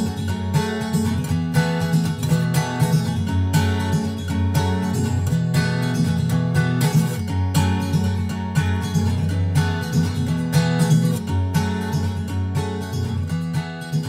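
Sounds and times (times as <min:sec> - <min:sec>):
acoustic guitar music with beat: 0:00.0 - 0:14.0.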